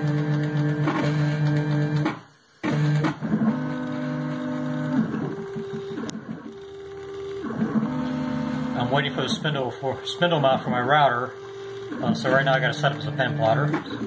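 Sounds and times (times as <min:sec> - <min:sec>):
stepper motors whining: 0:00.0 - 0:14.0.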